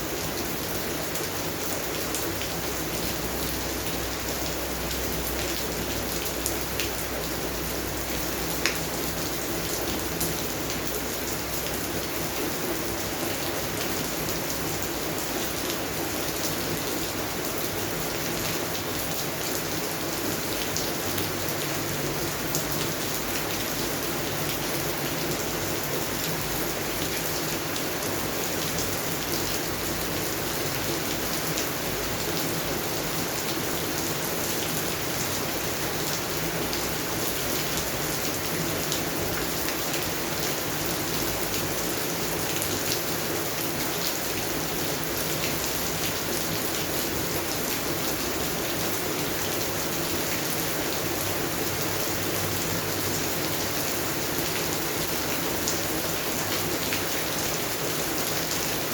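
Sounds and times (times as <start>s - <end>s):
rain falling on plants: 0.0s - 58.9s.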